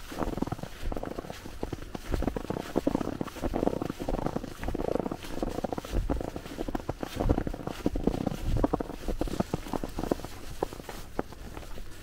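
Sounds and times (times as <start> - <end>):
footsteps crunching through snow: 0.0 - 12.0.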